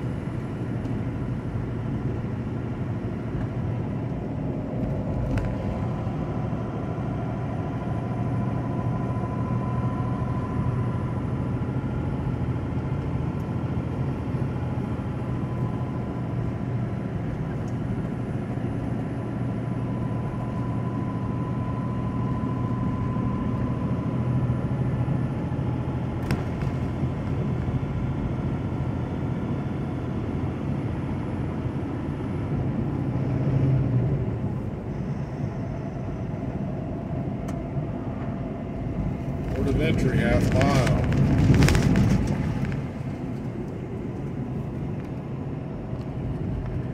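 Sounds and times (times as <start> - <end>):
faint steady whine: 0.0 - 33.4, 34.0 - 46.9
road noise: 0.0 - 46.9
truck engine drone: 0.0 - 46.9.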